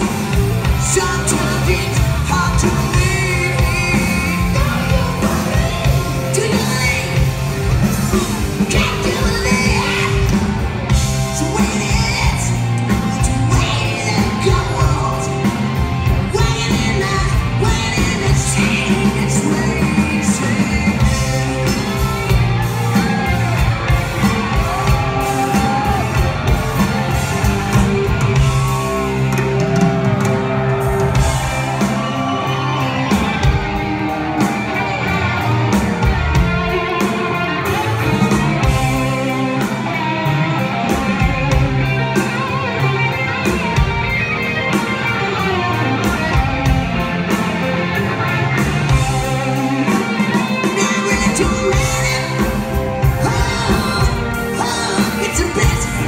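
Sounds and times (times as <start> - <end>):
electric guitar lead: 0.0 - 56.0
live rock band: 0.0 - 56.0.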